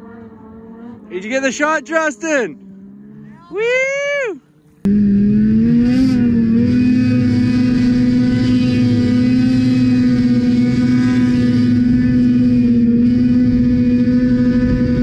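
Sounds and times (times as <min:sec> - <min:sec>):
snowmobile engine at high revs: 0:00.0 - 0:15.0.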